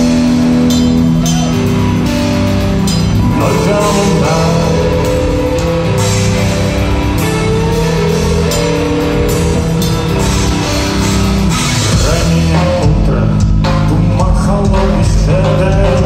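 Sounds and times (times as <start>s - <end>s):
drums and cymbals: 0.0s - 16.0s
electric bass: 0.0s - 16.0s
electric guitars: 0.0s - 16.0s.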